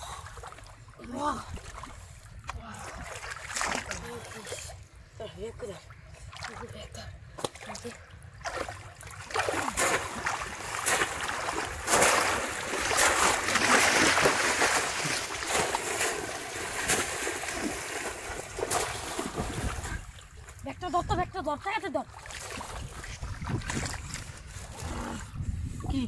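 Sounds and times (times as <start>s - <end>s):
legs wading through water: 0.0s - 20.8s, 21.9s - 25.2s
water splashing and sloshing: 0.0s - 26.0s.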